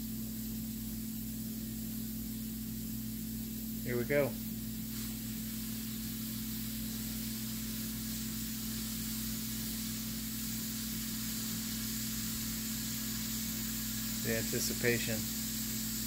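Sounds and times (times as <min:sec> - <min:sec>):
pressure canner hissing steam: 0:00.0 - 0:16.0
steady low hum: 0:00.0 - 0:16.0.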